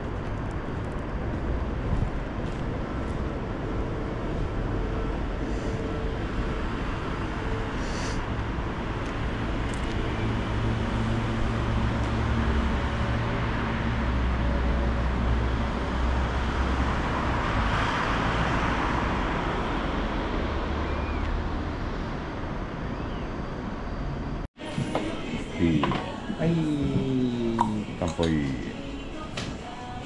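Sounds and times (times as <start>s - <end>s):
urban traffic rumble: 0.0s - 30.0s.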